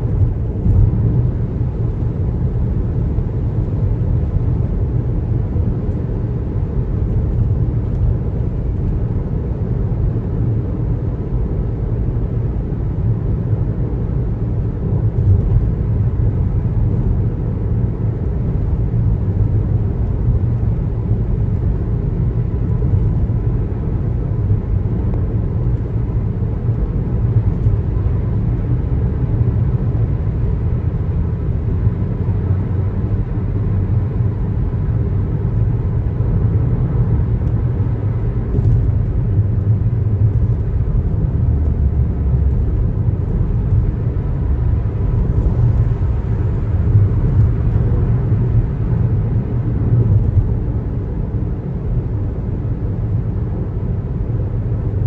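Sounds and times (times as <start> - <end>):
car road rumble: 0.0 - 55.0.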